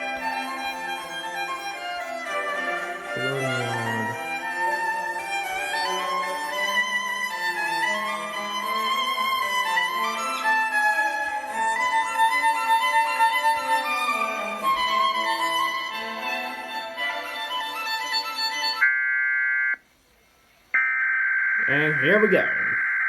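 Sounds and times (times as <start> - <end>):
violin melody: 0.0 - 18.8.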